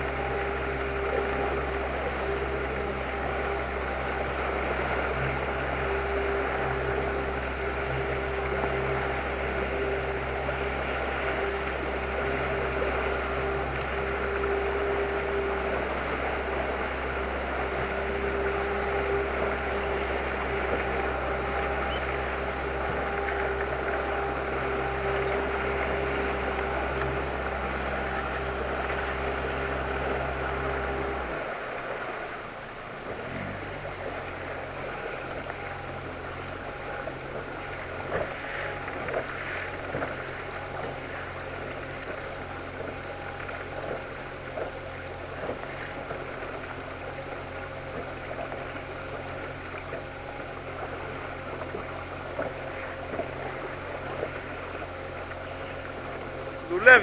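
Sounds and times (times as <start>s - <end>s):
outboard motor running: 0.0s - 57.0s
water wash: 0.0s - 57.0s.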